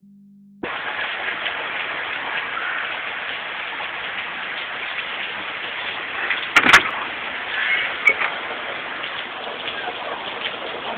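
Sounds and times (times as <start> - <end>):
very heavy rain pouring: 0.6 - 10.9.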